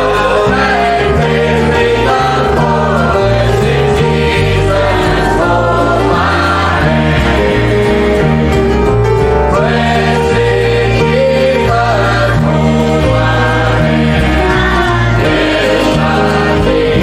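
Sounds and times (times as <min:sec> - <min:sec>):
choir singing a gospel hymn: 0:00.0 - 0:17.0
instrumental accompaniment: 0:00.0 - 0:17.0
steady bass line: 0:00.0 - 0:17.0.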